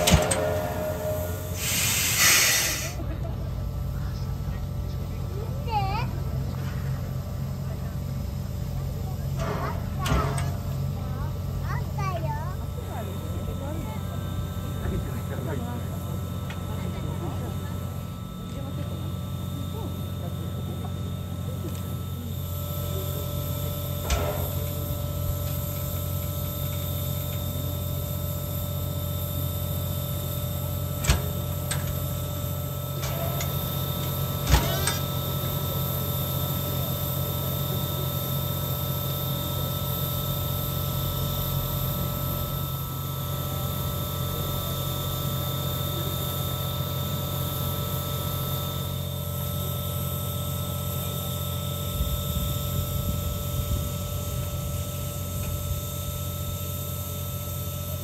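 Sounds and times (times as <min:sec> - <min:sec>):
train mechanical hum and whine: 0:00.0 - 0:58.0.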